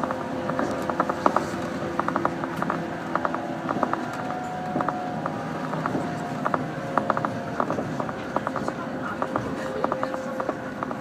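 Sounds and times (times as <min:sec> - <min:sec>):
car body clicks and creaks: 0:00.0 - 0:11.0
train carriage hum: 0:00.0 - 0:11.0.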